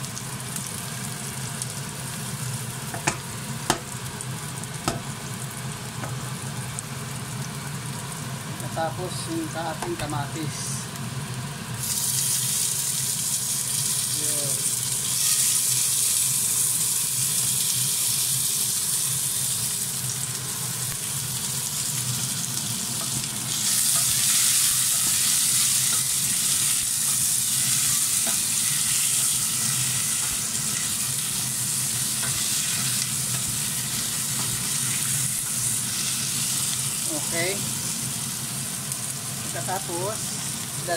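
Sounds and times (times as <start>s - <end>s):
vegetables sizzling in hot oil: 0.0s - 40.9s.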